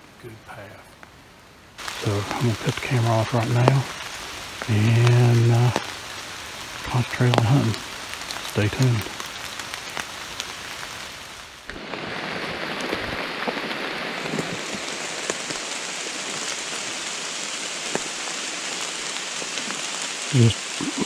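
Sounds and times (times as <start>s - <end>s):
rain falling on leaves: 0.0s - 21.0s.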